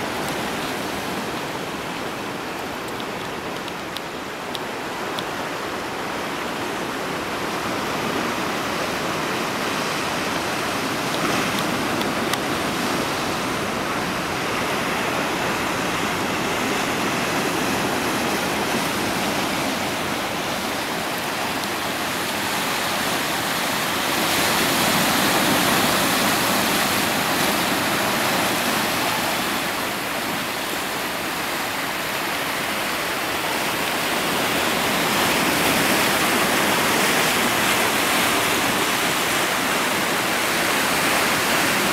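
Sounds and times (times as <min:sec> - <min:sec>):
surf washing over rocks: 0:00.0 - 0:41.9.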